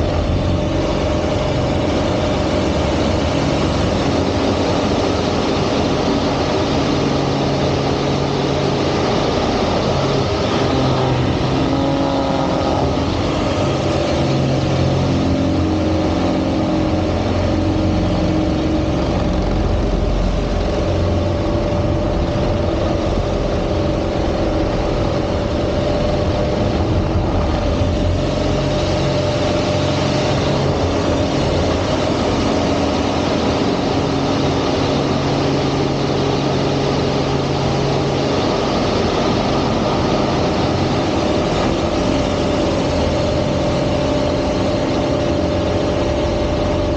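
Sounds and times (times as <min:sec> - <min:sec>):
airplane piston engine and propeller: 0:00.0 - 0:46.9
steady rushing noise: 0:00.0 - 0:46.9.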